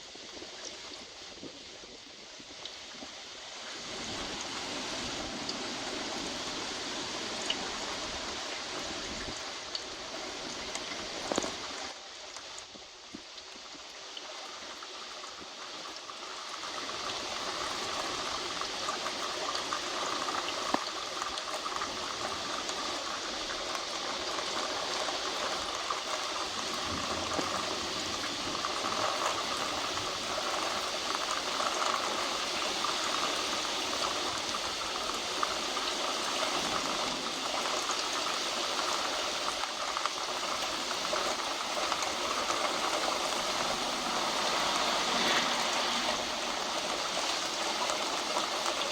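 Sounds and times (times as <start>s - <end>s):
heavy rain pouring: 3.4s - 13.0s, 14.8s - 48.9s.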